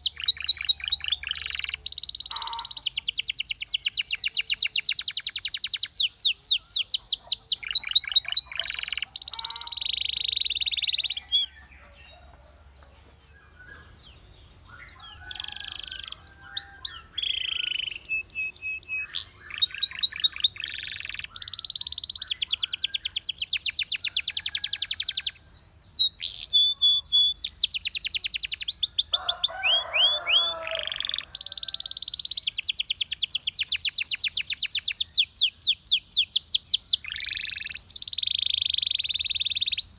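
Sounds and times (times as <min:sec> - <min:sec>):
canary singing trills: 0:00.0 - 0:12.4, 0:13.2 - 0:39.9.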